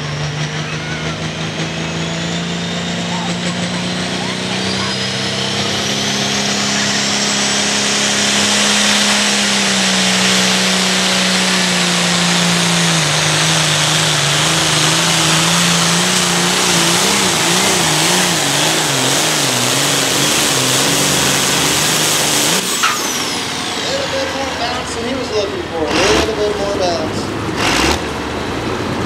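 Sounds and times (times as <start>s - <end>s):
high whine: 0.0s - 27.4s
tractor diesel engine under load: 0.0s - 29.0s.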